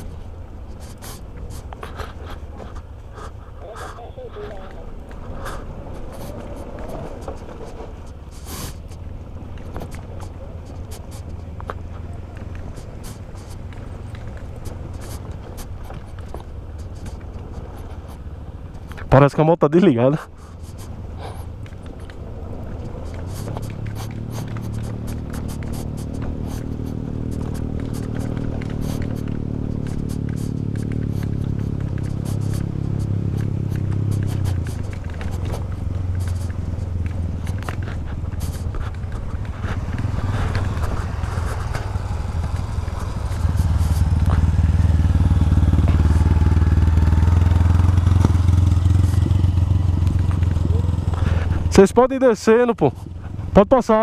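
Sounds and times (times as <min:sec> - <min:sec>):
motorcycle engine running: 0:00.0 - 0:19.4, 0:20.2 - 0:54.0
crackles and clicks: 0:00.0 - 0:54.0.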